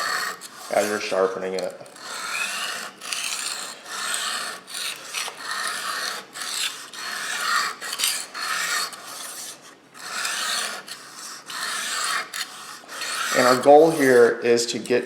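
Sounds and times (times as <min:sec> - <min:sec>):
knife scraping on sharpening stone: 0:00.0 - 0:01.0, 0:01.9 - 0:15.0.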